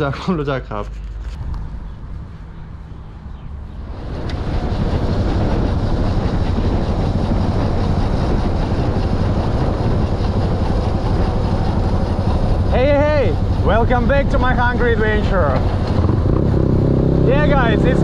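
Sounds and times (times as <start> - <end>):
motorbike running: 1.0 - 18.0
wind buffeting microphone: 1.2 - 18.0.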